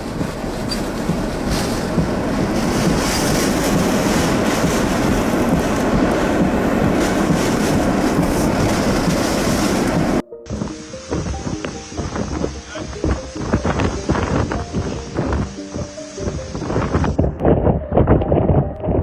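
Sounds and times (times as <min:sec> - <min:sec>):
strong wind on microphone: 0:00.0 - 0:19.0.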